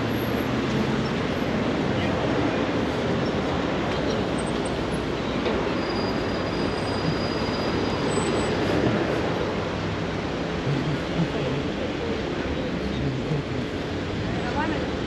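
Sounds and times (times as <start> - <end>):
dense street traffic: 0.0 - 15.0.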